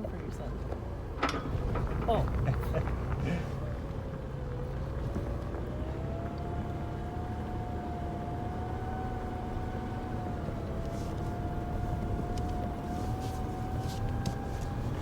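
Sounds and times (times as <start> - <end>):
steady vehicle whine: 0.0 - 15.0
vehicle engine rumble: 0.0 - 15.0.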